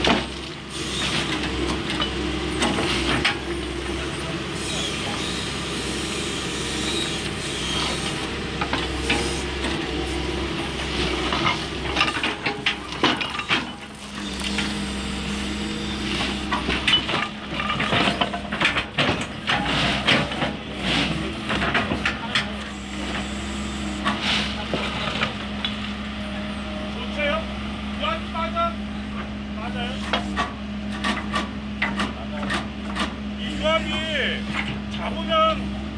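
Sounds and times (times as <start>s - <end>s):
excavator running: 0.0s - 35.9s.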